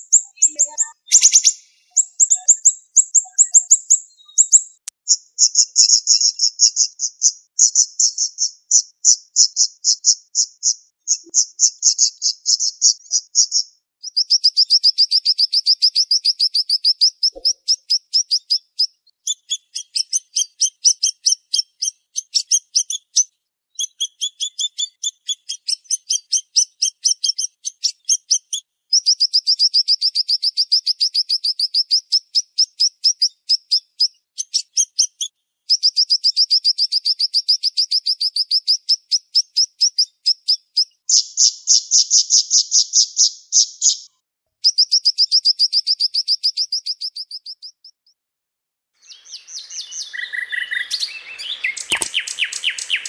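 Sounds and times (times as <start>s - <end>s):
songbird trilling: 0.0s - 44.0s, 49.0s - 53.0s.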